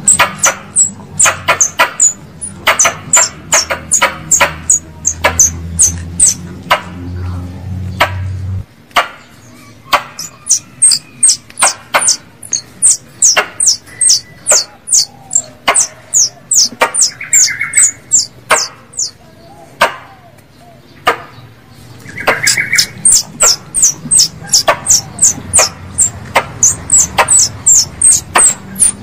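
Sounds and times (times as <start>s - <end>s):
high falling chirps: 0.0s - 6.9s, 9.4s - 19.2s, 22.1s - 29.0s
squirrel call chucks: 0.0s - 6.9s, 9.5s - 20.2s, 22.1s - 29.0s.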